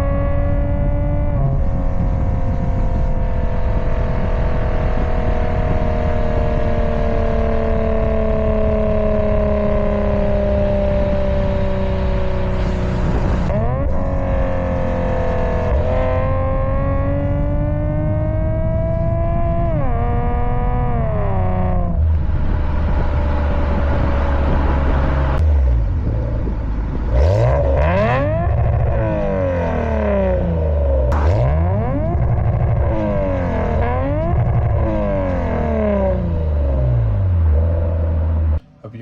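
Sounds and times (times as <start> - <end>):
car exhaust note: 0.0 - 39.0.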